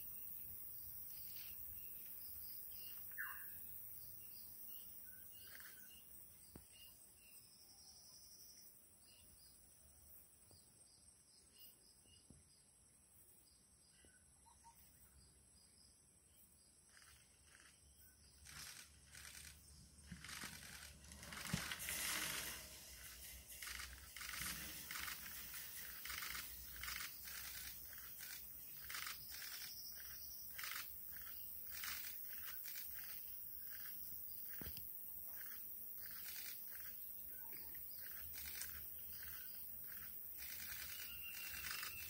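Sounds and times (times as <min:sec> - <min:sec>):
faint bird chirps: 0:00.0 - 0:20.9, 0:22.9 - 0:42.0
insect chirr: 0:00.0 - 0:42.0.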